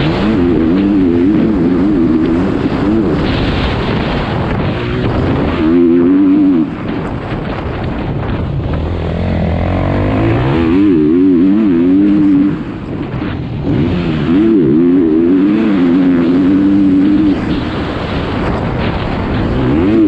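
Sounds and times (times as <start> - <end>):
motocross engine revving: 0.0 - 7.4, 8.2 - 18.2, 19.2 - 20.0.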